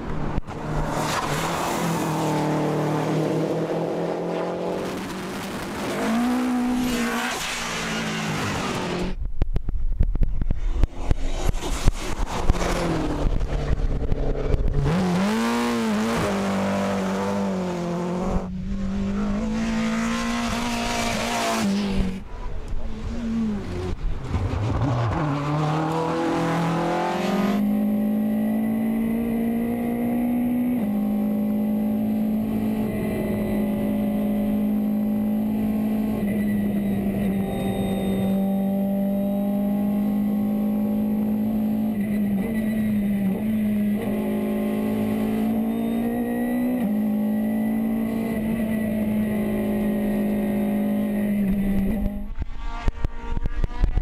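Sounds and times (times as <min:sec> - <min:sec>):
high-revving race-car engine: 0:00.0 - 0:09.2, 0:10.5 - 0:54.0
race cars accelerating past: 0:00.4 - 0:09.2, 0:10.6 - 0:54.0.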